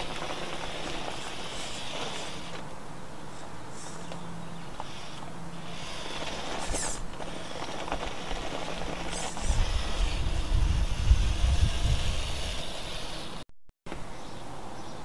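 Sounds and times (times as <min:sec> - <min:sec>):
rc car drivetrain and tyres: 0:00.0 - 0:13.4.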